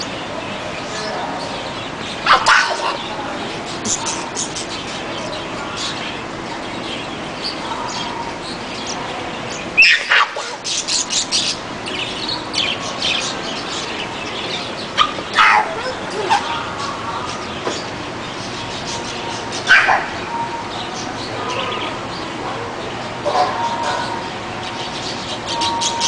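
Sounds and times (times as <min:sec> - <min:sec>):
small birds chirping: 0:00.0 - 0:26.0
steady background noise: 0:00.0 - 0:26.0.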